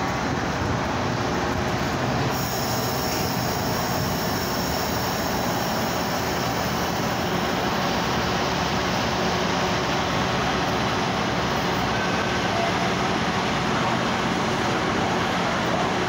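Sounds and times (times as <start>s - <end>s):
train hum and hiss: 0.0s - 16.0s.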